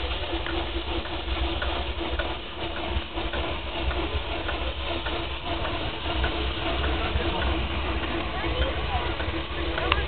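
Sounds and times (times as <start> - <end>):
low locomotive running noise: 0.0 - 10.0
steam hissing: 0.0 - 10.0.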